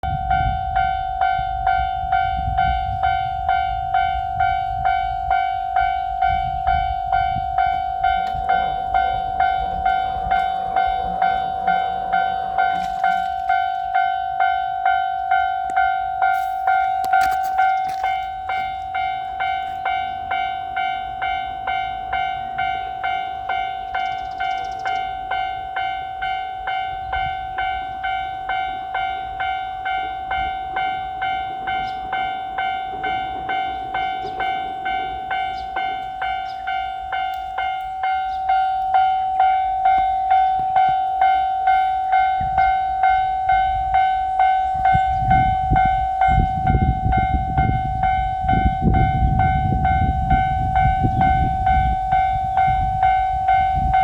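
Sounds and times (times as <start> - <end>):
railroad crossing bell ringing: 0.0 - 54.0.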